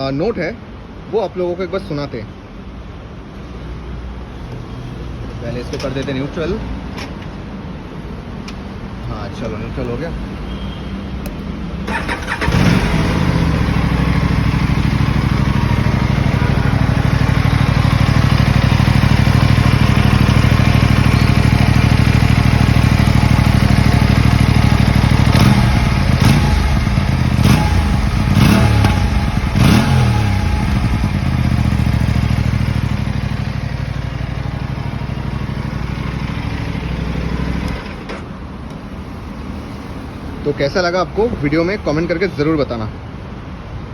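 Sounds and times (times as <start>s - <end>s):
motorcycle engine idling and revving: 4.3s - 42.1s.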